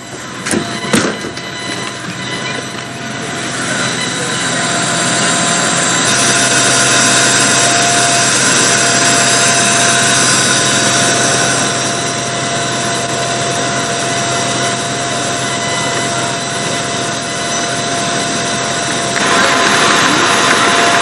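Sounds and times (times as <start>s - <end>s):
diesel train engine running: 0.0s - 21.0s.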